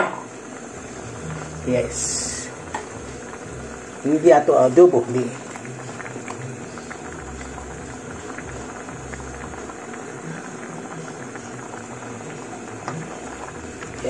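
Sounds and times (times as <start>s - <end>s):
stew bubbling in a wok: 0.0s - 14.0s.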